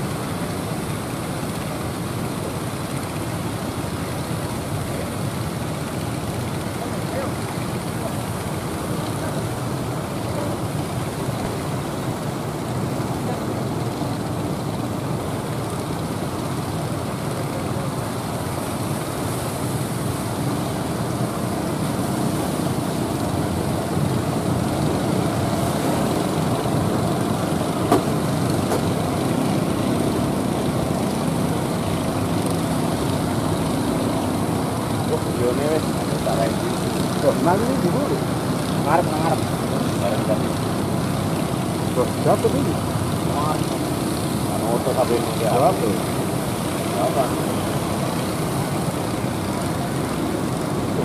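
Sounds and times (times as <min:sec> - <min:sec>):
boat engines running: 0:00.0 - 0:51.0
wind: 0:00.0 - 0:51.0
waves breaking: 0:07.3 - 0:51.0.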